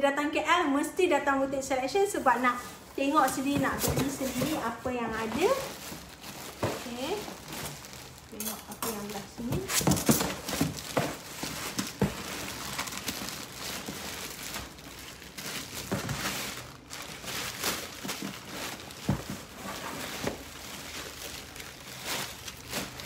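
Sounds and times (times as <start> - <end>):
plastic wrapping crinkling: 1.8 - 23.0.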